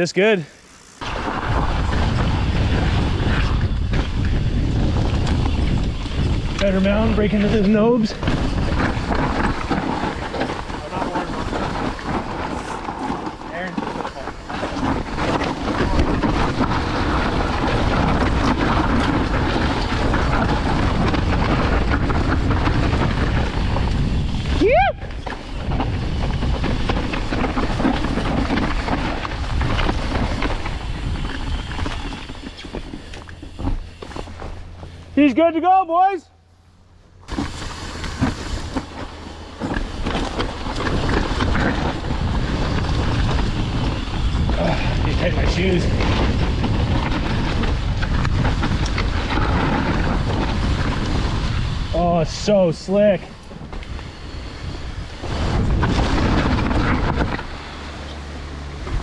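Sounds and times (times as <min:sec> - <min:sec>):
tyres rumbling over dirt: 0:00.0 - 0:36.1, 0:36.8 - 0:59.0
bike knocking and rattling: 0:00.5 - 0:36.1, 0:37.2 - 0:59.0
wind on microphone: 0:01.0 - 0:35.1, 0:37.3 - 0:59.0.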